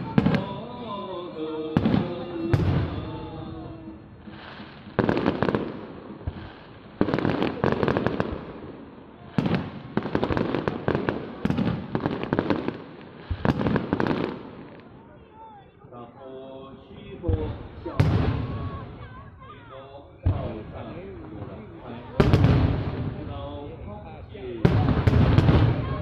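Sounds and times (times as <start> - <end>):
firework bangs: 0.0 - 15.5, 17.2 - 19.5, 20.2 - 26.0
firework crackling: 0.0 - 15.8, 20.4 - 26.0.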